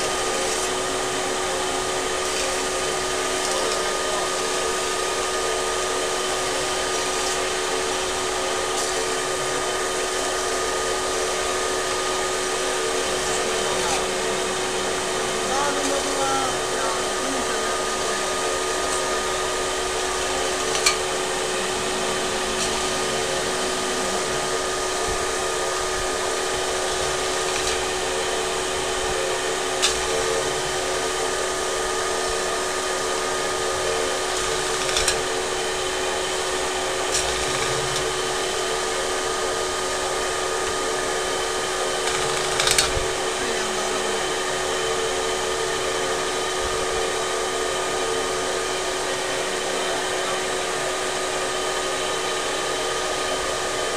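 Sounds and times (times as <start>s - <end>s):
metal spinning machine whirring: 0.0s - 53.9s.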